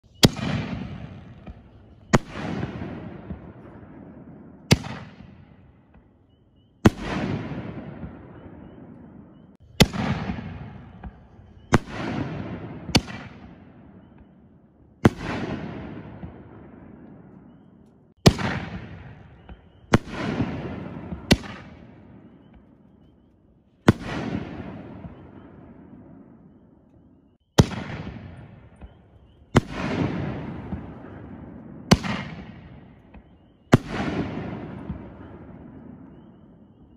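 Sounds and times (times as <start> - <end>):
firework bursts booming: 0.0 - 23.2, 23.9 - 26.6, 27.3 - 36.9.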